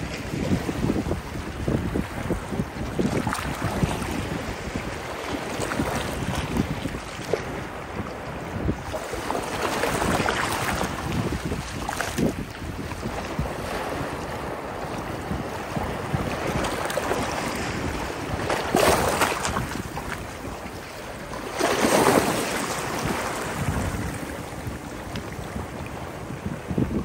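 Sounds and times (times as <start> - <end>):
sea waves washing onto beach: 0.0 - 27.0
wind buffeting microphone: 0.0 - 27.0.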